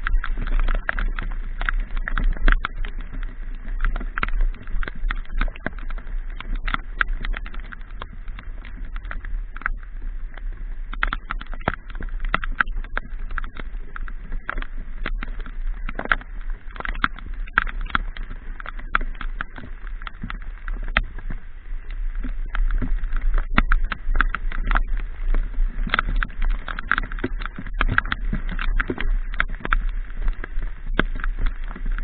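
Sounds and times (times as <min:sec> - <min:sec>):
raindrops striking microphone: 0:00.0 - 0:32.0.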